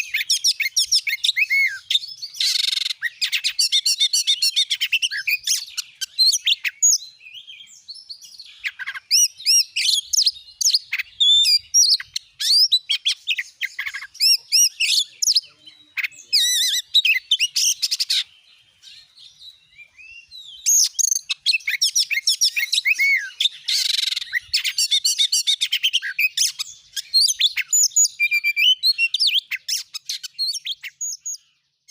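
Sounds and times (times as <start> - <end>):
magpie-robin singing: 0.0 - 31.9.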